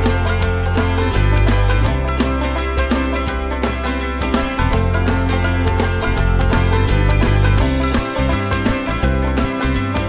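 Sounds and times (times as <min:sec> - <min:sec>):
instrumental music with plucked strings: 0:00.0 - 0:10.0.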